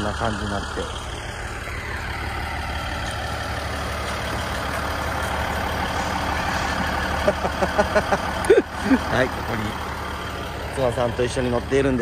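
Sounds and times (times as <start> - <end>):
diesel railcar engine idling: 0.0 - 12.0.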